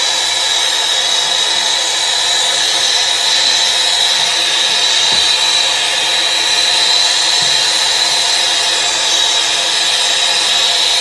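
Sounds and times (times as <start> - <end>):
torch flame hissing: 0.0 - 11.0.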